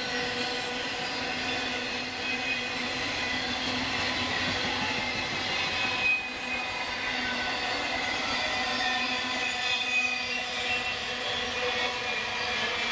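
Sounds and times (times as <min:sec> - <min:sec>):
freight train rolling past: 0:00.0 - 0:12.9
high wheel squeal: 0:00.0 - 0:12.9.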